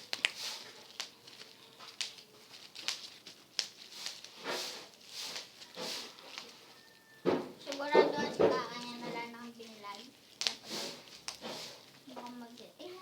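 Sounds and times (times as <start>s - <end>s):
bubble wrap popping: 0.0s - 13.0s
plastic rustling: 0.0s - 13.0s.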